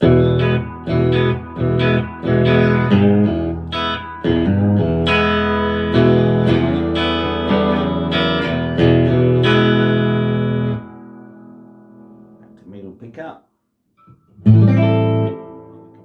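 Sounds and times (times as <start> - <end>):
electric guitar chords: 0.0 - 12.6, 14.0 - 16.0.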